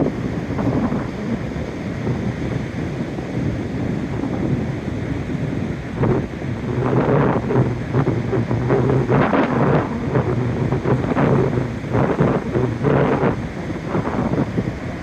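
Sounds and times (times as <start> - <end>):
ocean waves crashing: 0.0 - 15.0
wind buffeting microphone: 0.0 - 15.0.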